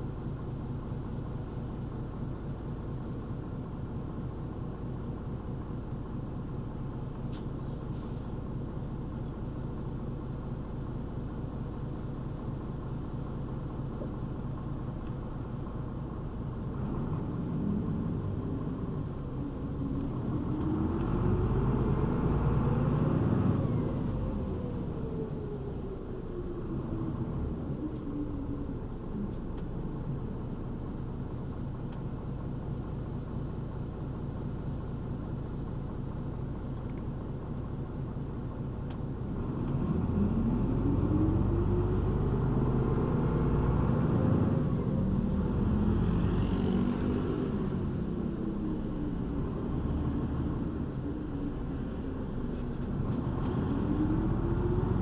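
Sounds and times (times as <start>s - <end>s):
bus engine accelerating: 6.9s - 10.2s, 11.2s - 36.8s, 38.3s - 55.0s.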